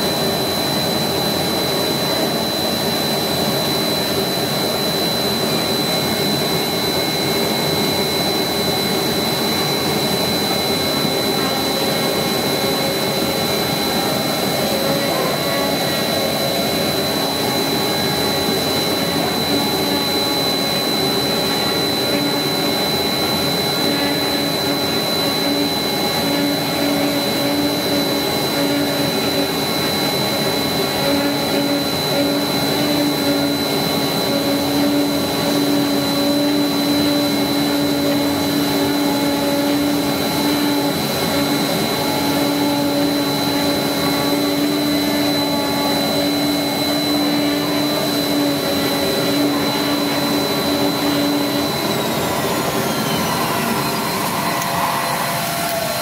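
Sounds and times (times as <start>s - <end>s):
low buzzing hum: 0.0s - 55.1s
machine drone with high whine: 0.0s - 56.0s.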